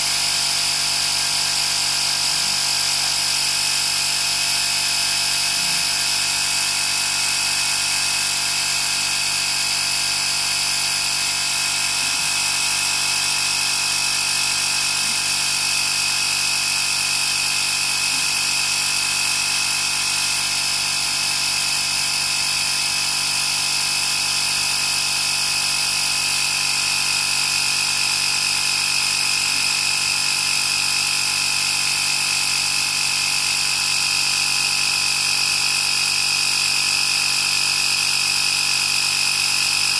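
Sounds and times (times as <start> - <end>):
air compressor whining: 0.0 - 39.9.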